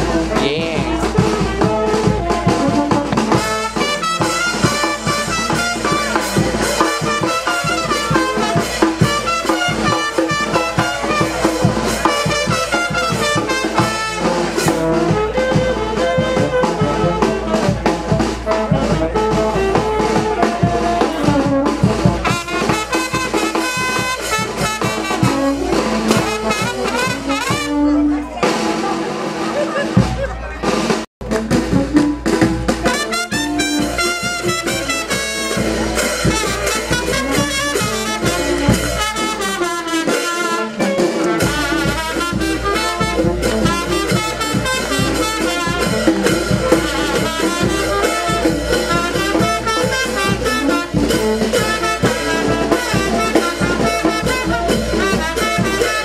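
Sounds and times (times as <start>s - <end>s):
brass band dance music: 0.0s - 56.0s.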